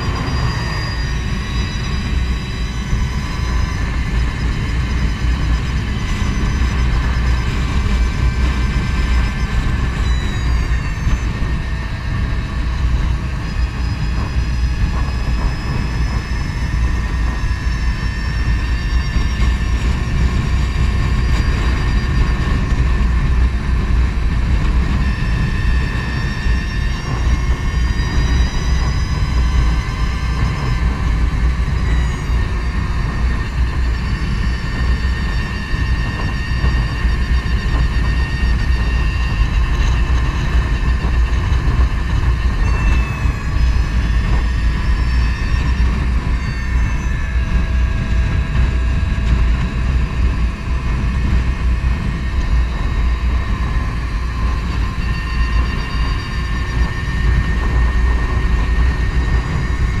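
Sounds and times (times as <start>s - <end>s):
electric motor whine: 0.0s - 60.0s
wind rumble on microphone: 0.0s - 60.0s.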